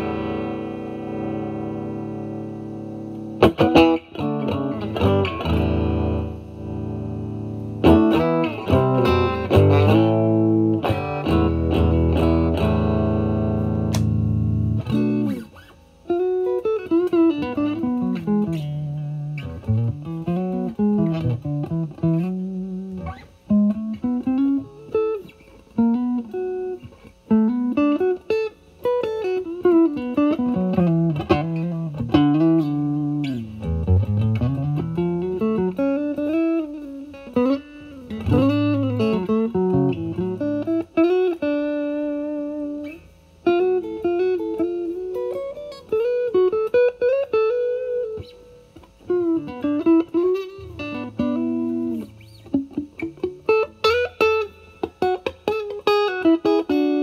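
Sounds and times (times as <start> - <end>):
overdriven electric guitar lead: 0.0 - 57.0.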